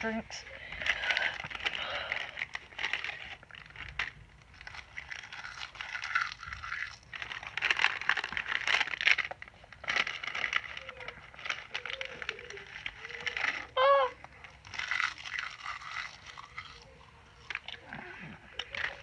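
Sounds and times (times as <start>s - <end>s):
plastic bag crinkling: 0.0s - 19.0s
crunchy chewing: 0.8s - 19.0s.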